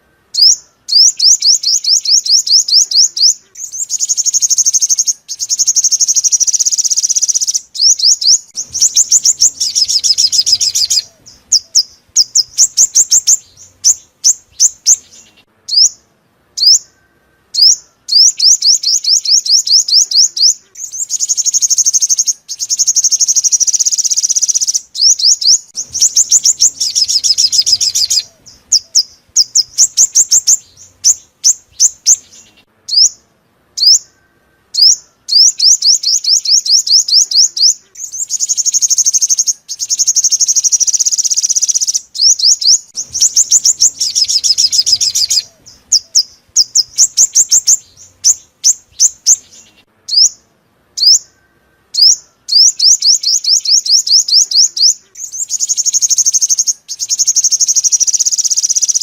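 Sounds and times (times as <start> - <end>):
bird song with buzzy trills: 0.0 - 59.0.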